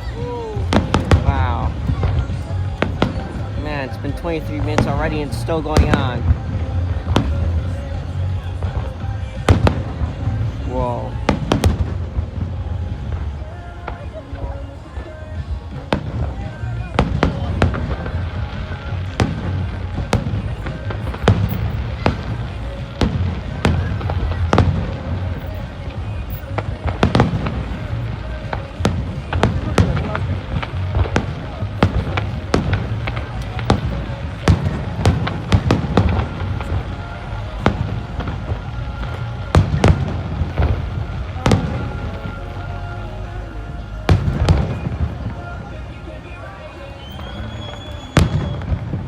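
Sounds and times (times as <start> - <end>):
continuous low rumble: 0.0 - 49.0
fireworks bursting: 0.0 - 49.0.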